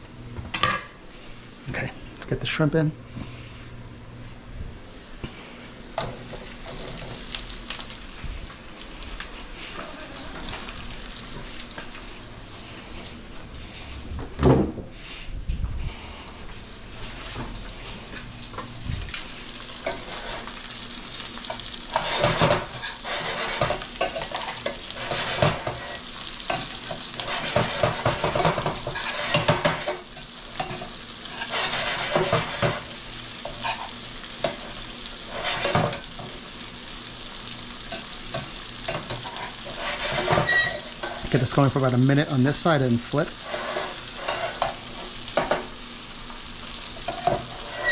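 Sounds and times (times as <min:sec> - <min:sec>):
shrimp sizzling in oil: 0:05.7 - 0:13.4, 0:16.6 - 0:47.9.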